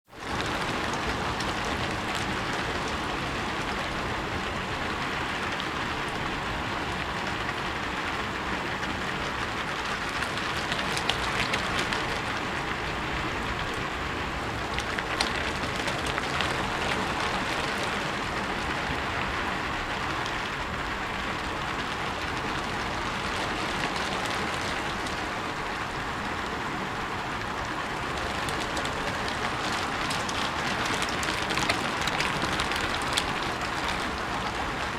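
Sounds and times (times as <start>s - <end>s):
rain falling on a roof: 0.0s - 34.9s.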